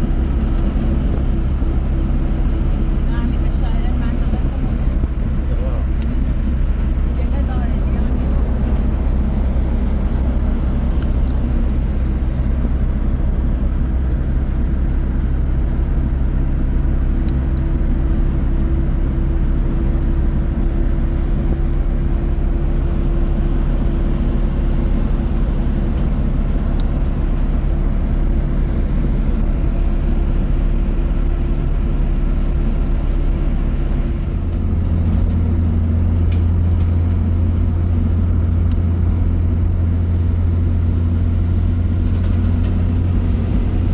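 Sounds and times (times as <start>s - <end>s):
road noise: 0.0s - 43.9s
vehicle engine running: 0.0s - 43.9s.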